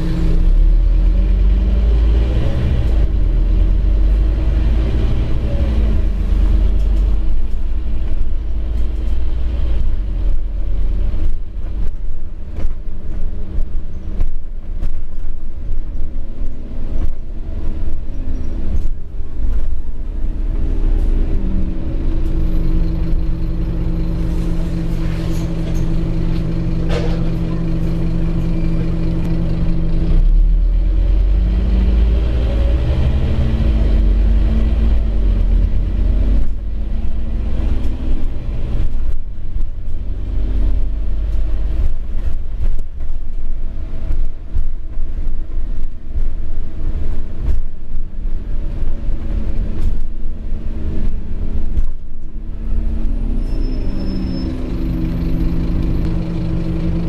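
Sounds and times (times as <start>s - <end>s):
bus diesel engine drone: 0.0s - 57.0s
road rumble: 0.0s - 57.0s.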